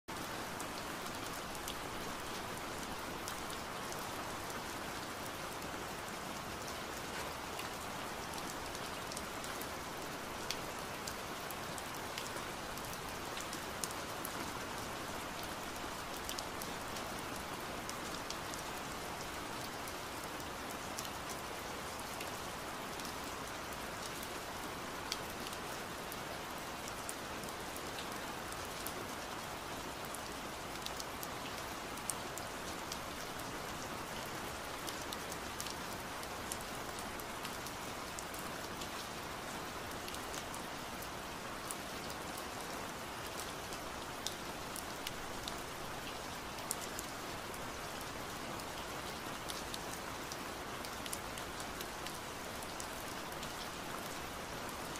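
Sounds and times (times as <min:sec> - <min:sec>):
steady rain: 0:00.1 - 0:54.9.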